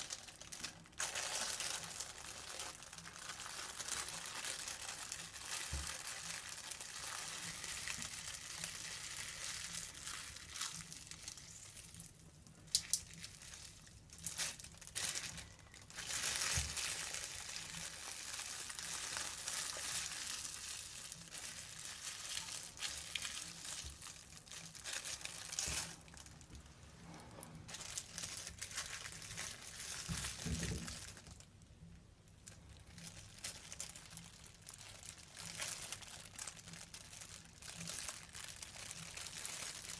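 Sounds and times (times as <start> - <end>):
plastic shower cap crinkling: 0.0 - 26.8, 27.4 - 31.5, 32.4 - 39.9.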